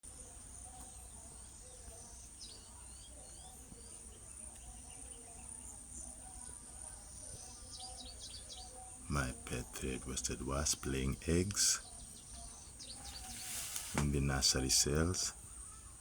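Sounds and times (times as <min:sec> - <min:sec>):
bird chirps: 0:00.5 - 0:16.0.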